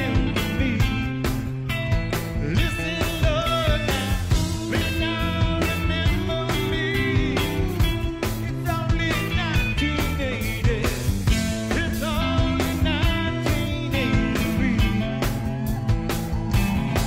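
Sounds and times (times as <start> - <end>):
man singing: 0.0 - 1.5, 2.1 - 15.8
bass guitar: 0.0 - 17.0
electric guitar: 0.0 - 17.0
steady drum beat: 0.0 - 17.0.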